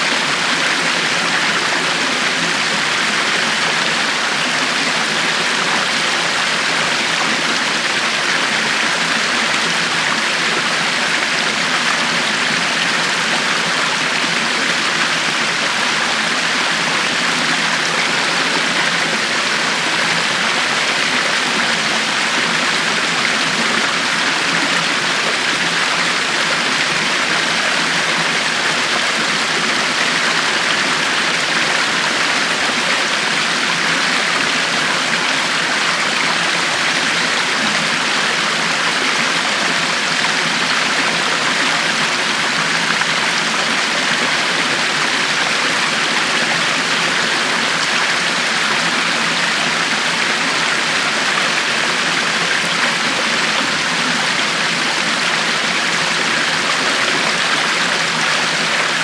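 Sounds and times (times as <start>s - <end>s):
river water flowing and splashing: 0.0s - 59.0s.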